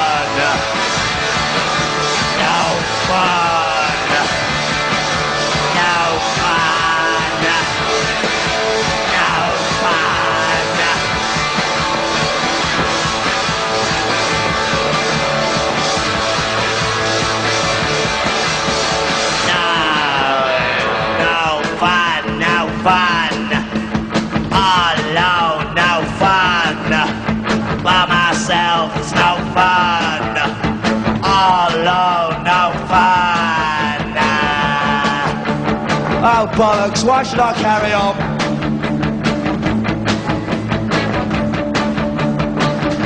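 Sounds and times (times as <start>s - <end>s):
bass and drums: 0.0s - 43.0s
electric guitar lead with bends: 0.0s - 43.0s.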